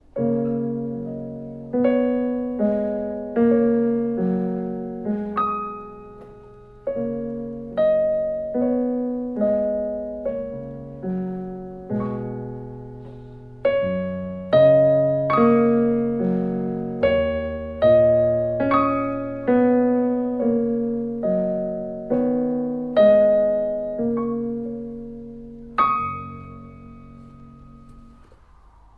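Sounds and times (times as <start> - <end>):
slow gentle piano duet: 0.0 - 28.9.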